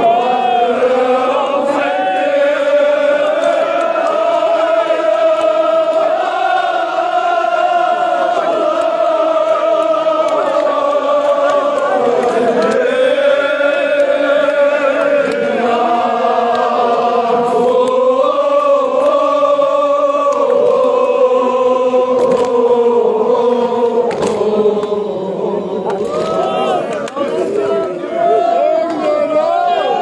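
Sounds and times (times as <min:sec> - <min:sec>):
crowd of men chanting: 0:00.0 - 0:30.0.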